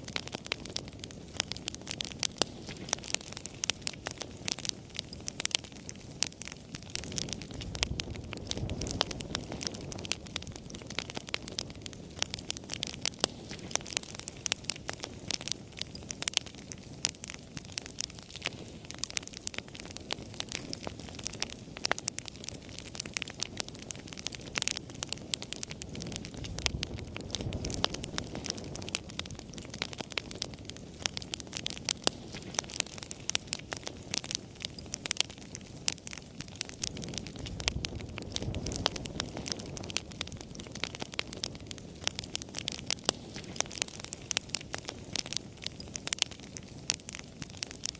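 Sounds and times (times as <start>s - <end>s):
low rumble of flames: 0.0s - 47.9s
wood fire pops and snaps: 0.0s - 47.9s.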